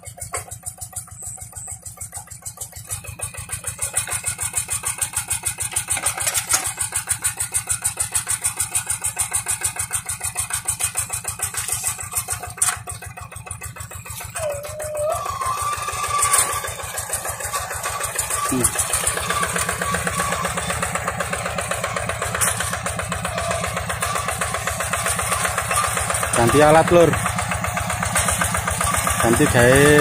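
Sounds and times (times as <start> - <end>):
diesel engine chugging: 0.0 - 30.0.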